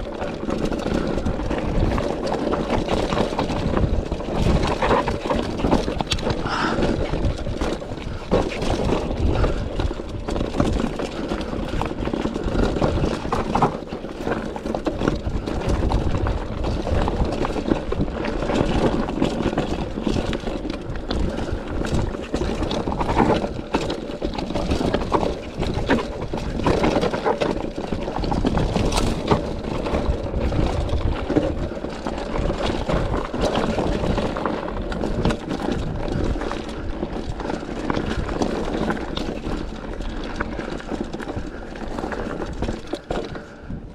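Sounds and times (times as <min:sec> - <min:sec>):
bike knocks and rattles: 0:00.0 - 0:43.9
tyres crunching over loose stones: 0:00.0 - 0:43.9
wind rumble on microphone: 0:00.0 - 0:43.9.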